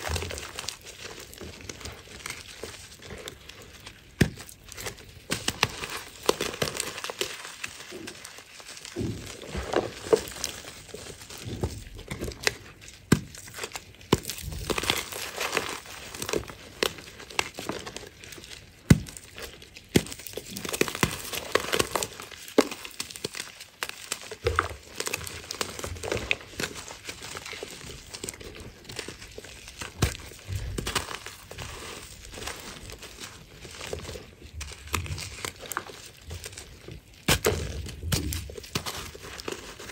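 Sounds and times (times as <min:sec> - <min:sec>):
chalk crushed by hands: 0:00.0 - 0:39.9.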